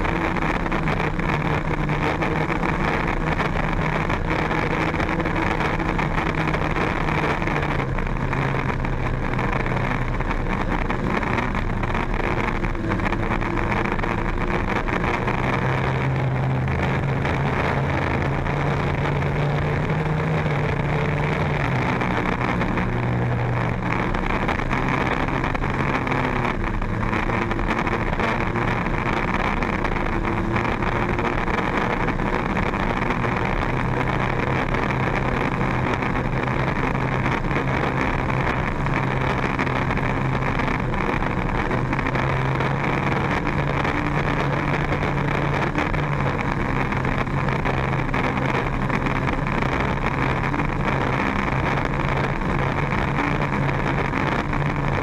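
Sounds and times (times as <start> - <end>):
powerboat engine running: 0.0 - 55.0.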